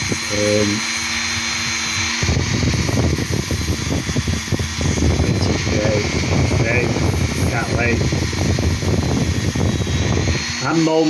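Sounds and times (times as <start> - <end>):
handheld power tool grinding stone: 0.0 - 11.0.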